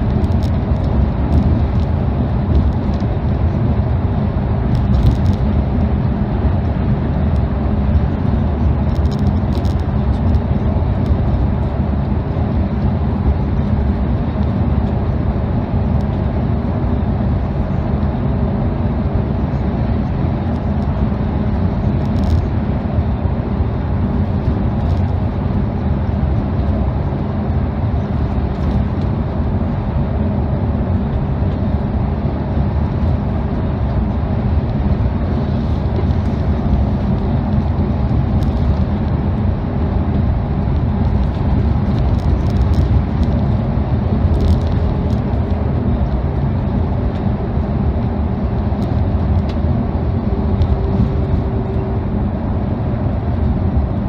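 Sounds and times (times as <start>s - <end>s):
coach engine hum: 0.0s - 54.0s.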